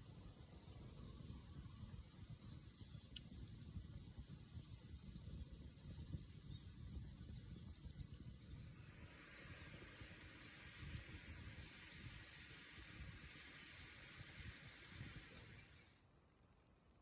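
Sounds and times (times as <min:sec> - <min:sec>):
wood fire hissing and crackling: 0:00.0 - 0:17.0.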